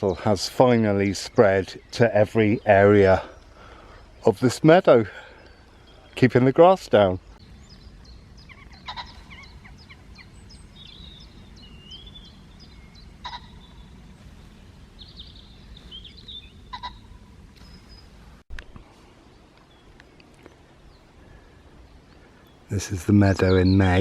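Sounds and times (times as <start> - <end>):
low outdoor rumble: 0.0 - 24.0
small birds singing: 0.0 - 24.0.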